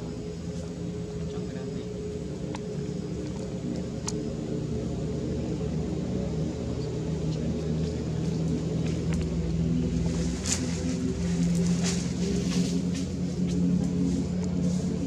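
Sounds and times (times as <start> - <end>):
low motor-like rumble: 0.0 - 15.0.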